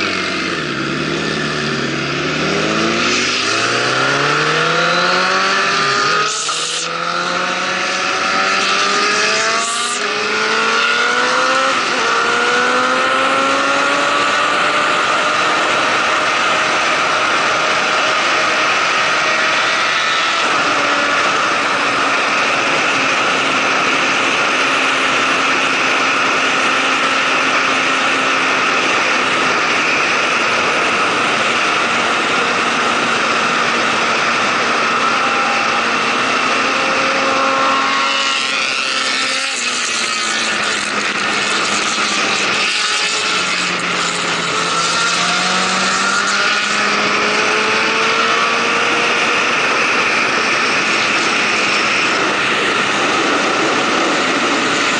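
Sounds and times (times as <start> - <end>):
heavy wind rush: 0.0 - 38.9, 43.7 - 54.9
motorcycle engine: 0.0 - 54.9.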